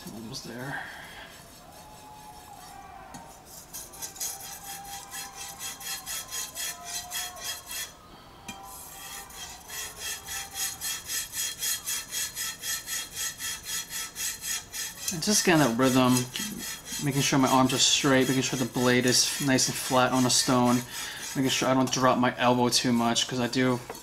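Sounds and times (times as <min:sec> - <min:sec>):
knife rasping on whetstone: 0:00.0 - 0:24.0.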